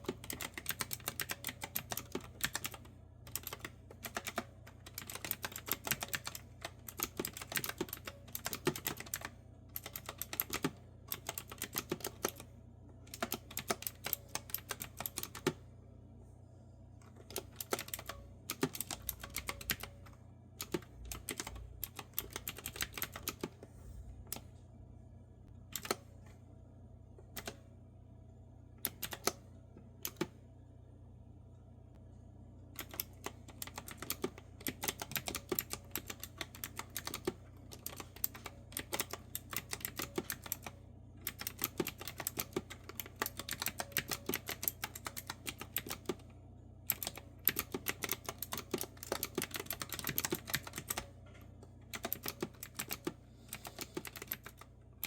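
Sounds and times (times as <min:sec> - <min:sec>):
clicky keyboard typing: 0:00.0 - 0:12.5, 0:13.1 - 0:15.6, 0:17.0 - 0:23.6, 0:25.7 - 0:26.0, 0:27.4 - 0:27.6, 0:28.8 - 0:29.4, 0:30.0 - 0:30.4, 0:32.8 - 0:46.3, 0:46.9 - 0:54.7
faint low hum: 0:00.0 - 0:55.0.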